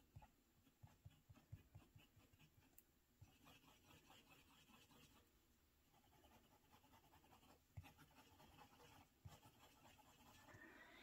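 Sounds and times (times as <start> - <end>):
pen nib scratching on paper: 0.0 - 5.3, 5.9 - 11.0.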